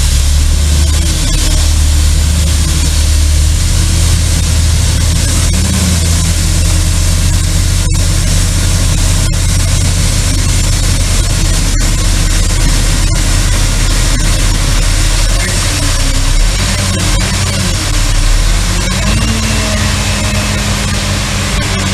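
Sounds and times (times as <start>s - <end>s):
truck diesel engine running: 0.0s - 21.9s.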